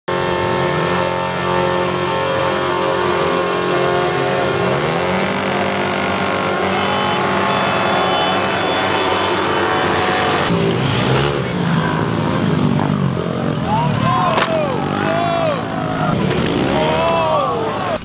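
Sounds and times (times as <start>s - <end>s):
pit bike engines revving: 0.1s - 18.0s.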